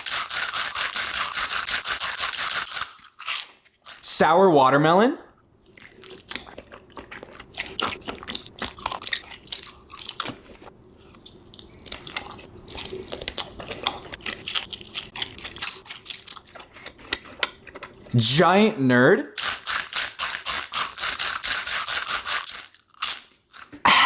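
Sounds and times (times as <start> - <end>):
candy chewing: 0.0 - 4.1, 5.6 - 18.1, 19.4 - 23.8.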